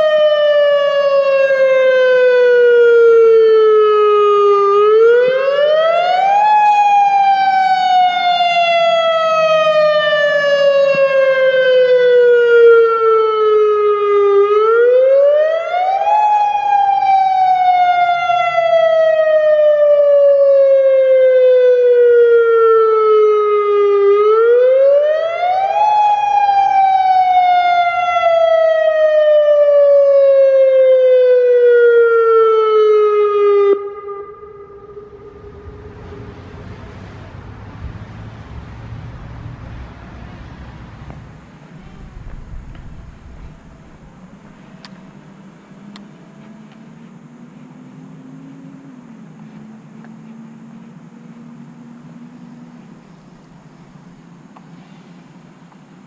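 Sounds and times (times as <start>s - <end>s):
warning siren wailing: 0.0s - 54.5s.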